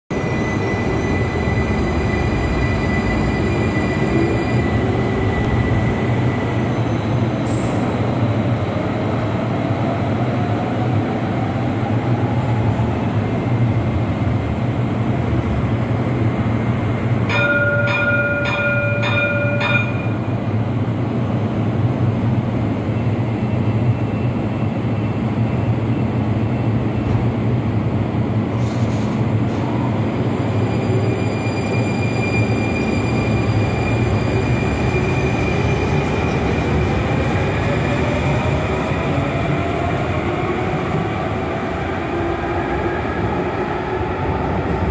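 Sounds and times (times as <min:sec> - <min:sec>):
tram rail rumble: 0:00.1 - 0:44.9.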